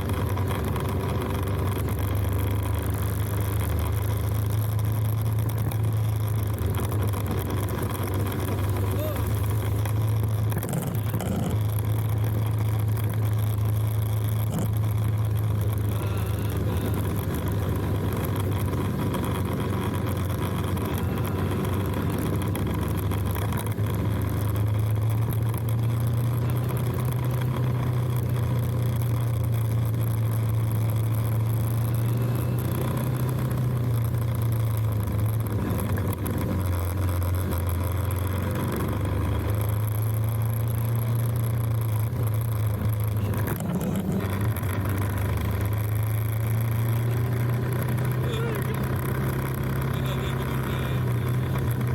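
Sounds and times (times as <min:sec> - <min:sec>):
motorcycle engine running: 0:00.0 - 0:51.9
road noise: 0:00.0 - 0:51.9.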